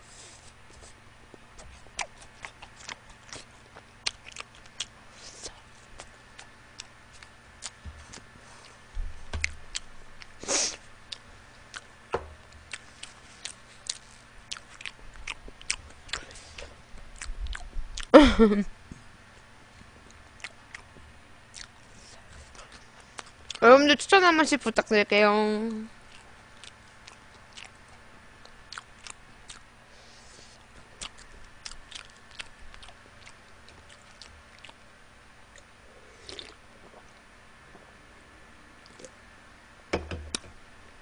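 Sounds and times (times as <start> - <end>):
person chewing food: 0.2 - 18.1, 19.3 - 23.6, 26.0 - 34.9, 35.5 - 37.2, 38.8 - 39.2.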